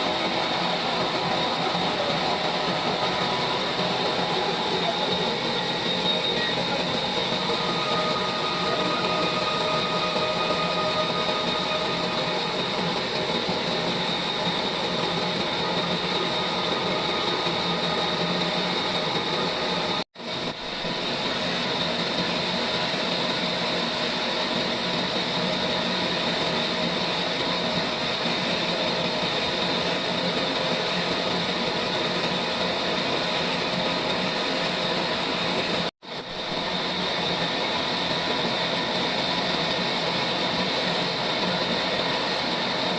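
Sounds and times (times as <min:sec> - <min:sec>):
sawmill saw whining: 0:00.0 - 0:42.9.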